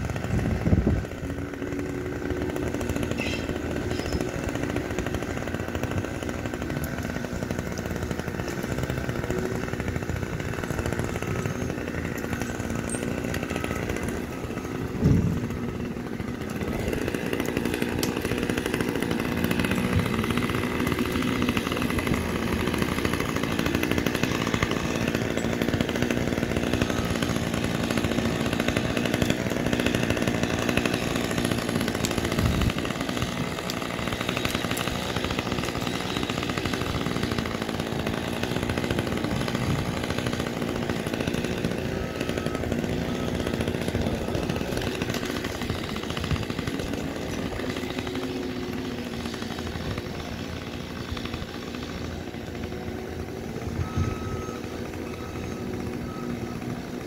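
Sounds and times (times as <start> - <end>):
chainsaw engine running: 0.0 - 57.0.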